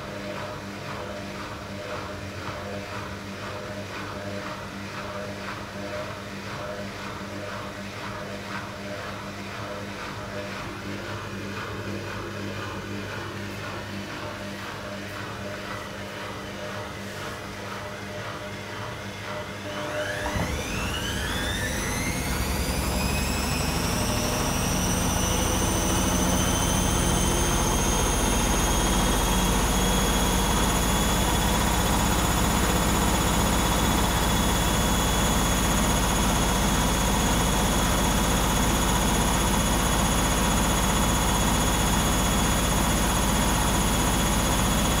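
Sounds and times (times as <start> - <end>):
washing machine motor whine: 0.0 - 45.0.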